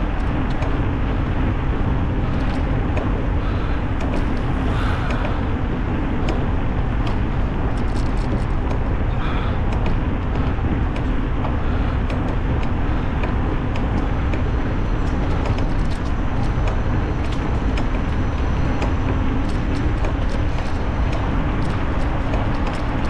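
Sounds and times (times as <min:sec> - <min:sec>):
light ticks and clicks: 0:00.0 - 0:23.0
wind rushing over microphone: 0:00.0 - 0:23.0.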